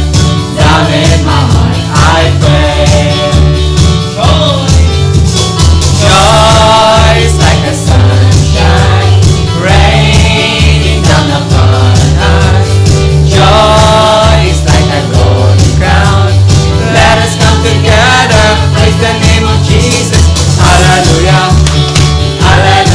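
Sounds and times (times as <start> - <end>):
group of voices singing: 0.0 - 5.1, 5.9 - 22.9
bass line: 0.0 - 22.9
drum beat: 0.0 - 22.9.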